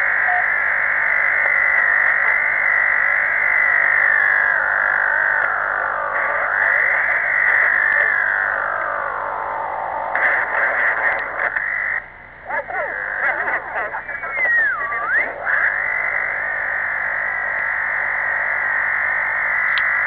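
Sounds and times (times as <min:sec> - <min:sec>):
warbling radio interference hiss: 0:00.0 - 0:20.0.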